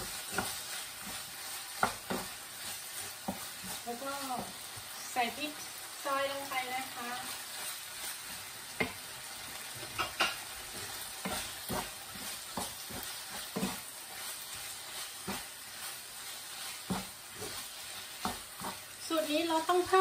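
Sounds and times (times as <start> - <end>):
food sizzling in oil: 0.0 - 20.0
wooden spatula scraping a pan: 0.0 - 20.0.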